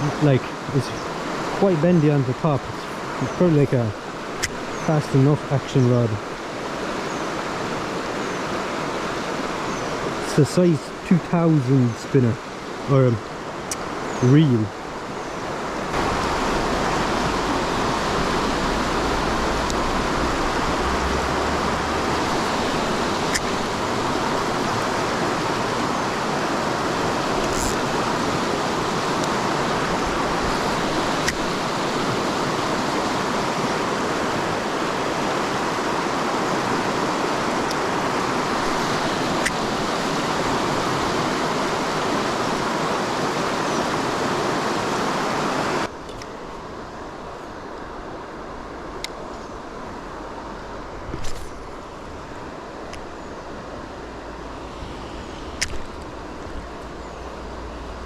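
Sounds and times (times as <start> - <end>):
waterfall rushing into pool: 0.0 - 46.9.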